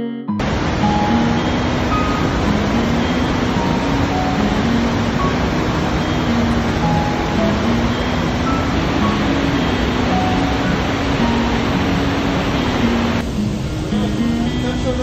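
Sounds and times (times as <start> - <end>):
large waterfall rushing: 0.4 - 15.0.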